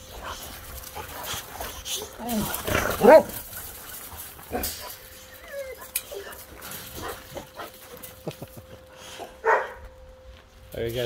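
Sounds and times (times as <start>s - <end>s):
dogs yipping: 0.0s - 8.5s, 9.2s - 9.8s
dogs whining: 0.0s - 9.9s.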